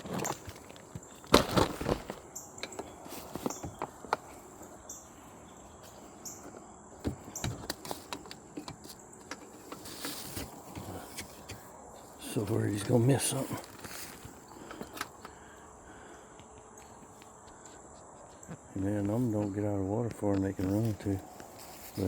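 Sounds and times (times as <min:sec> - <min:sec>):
insects chirping: 0:00.0 - 0:22.0
rustles: 0:00.0 - 0:22.0.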